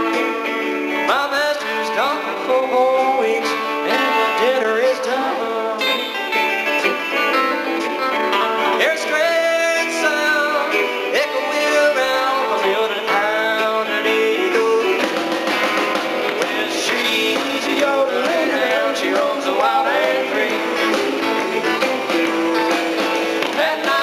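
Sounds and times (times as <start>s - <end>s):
live country-rock band: 0.0s - 24.0s.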